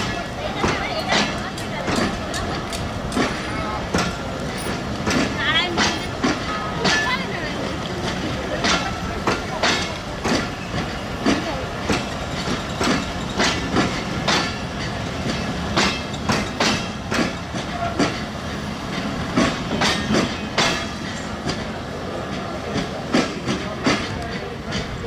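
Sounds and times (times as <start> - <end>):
train rumble: 0.0 - 25.0
train wheels clacking over rail joints: 0.0 - 25.0.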